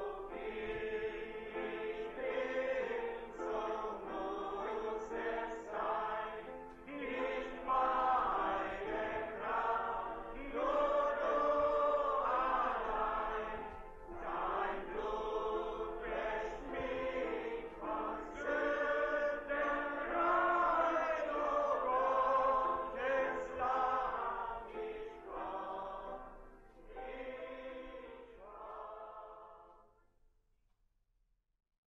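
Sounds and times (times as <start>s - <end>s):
congregation singing a hymn: 0.0s - 29.9s.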